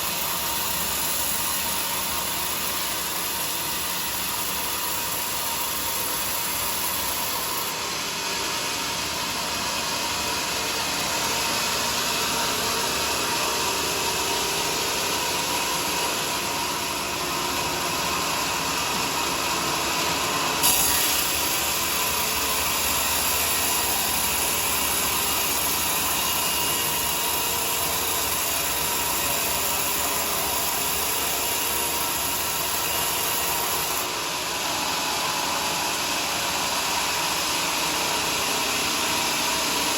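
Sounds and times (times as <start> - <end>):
bandsaw cutting log: 0.0 - 34.9.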